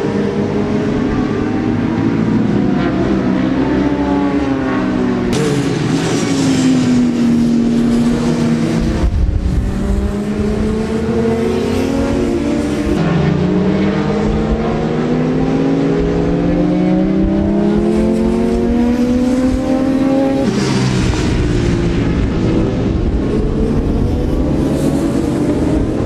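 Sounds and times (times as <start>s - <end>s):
racing motorcycle engines revving: 0.0s - 26.0s.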